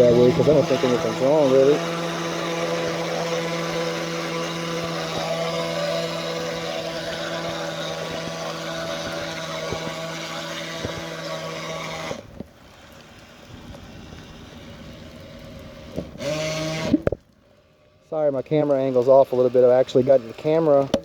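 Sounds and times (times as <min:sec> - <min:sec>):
toy boat electric motor humming: 0:00.0 - 0:21.0.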